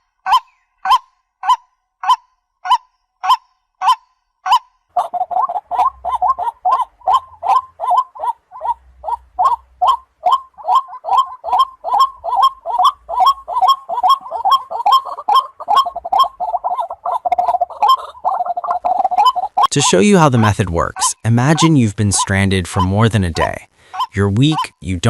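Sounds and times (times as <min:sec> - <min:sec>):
waterhen harsh croaking calls: 0:00.3 - 0:25.0.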